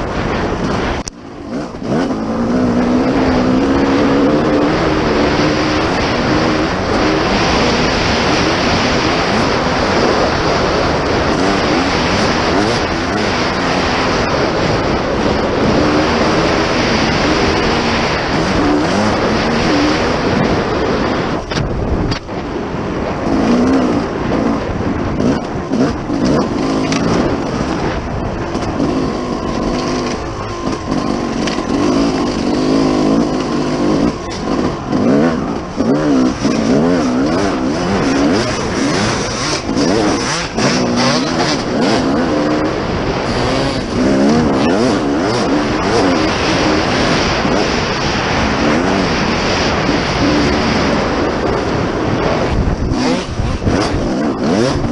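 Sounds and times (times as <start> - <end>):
dirt bike engine revving: 0.0 - 54.9
wind rush: 0.0 - 54.9.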